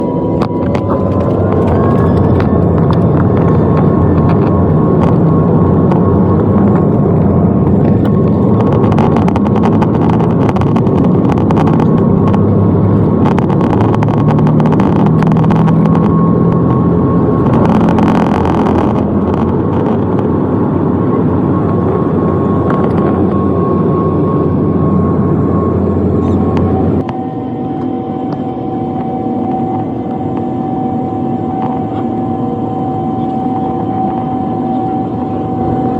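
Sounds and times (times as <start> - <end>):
aircraft engines rumbling: 0.0 - 35.9
thin engine whine: 0.0 - 35.9.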